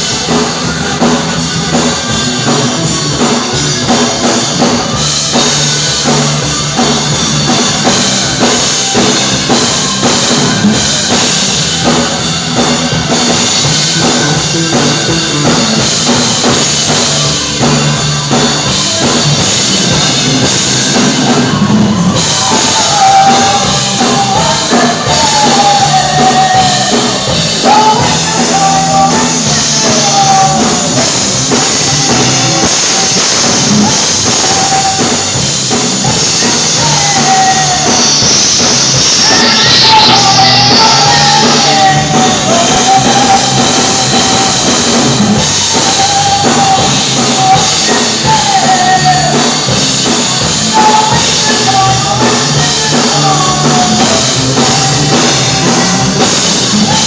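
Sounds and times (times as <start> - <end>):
high melodic line: 0.0 - 57.0
rock band playing: 0.0 - 57.0.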